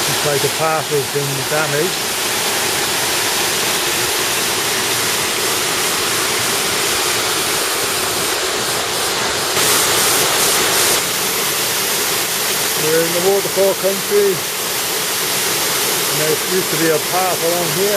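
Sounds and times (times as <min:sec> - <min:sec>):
bright hiss: 0:00.0 - 0:04.6, 0:06.6 - 0:17.9
rushing water: 0:00.0 - 0:17.9.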